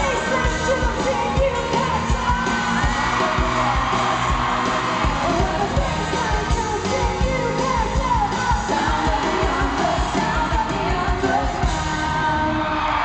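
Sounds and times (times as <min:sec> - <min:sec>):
crowd yelling: 0:00.0 - 0:06.5, 0:08.2 - 0:13.0
live pop band: 0:00.0 - 0:13.0
woman singing: 0:00.0 - 0:13.0.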